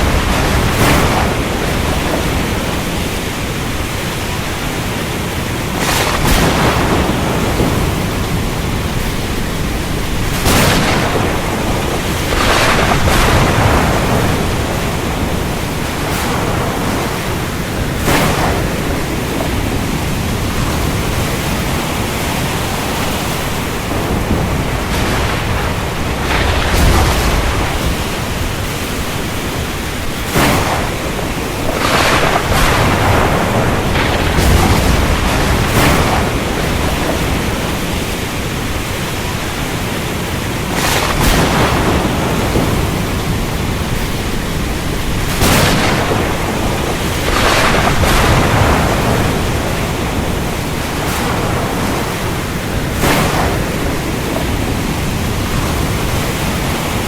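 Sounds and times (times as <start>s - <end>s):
steady rain: 0.0s - 57.0s
thunder cracking: 0.0s - 57.0s.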